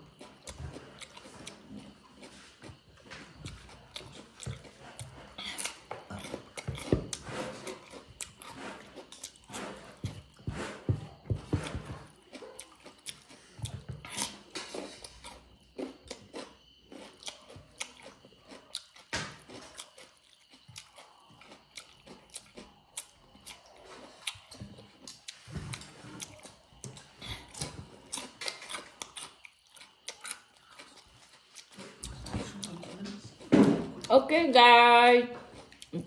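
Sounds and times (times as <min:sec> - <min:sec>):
person chewing and biting: 0:00.0 - 0:33.5, 0:35.6 - 0:36.0.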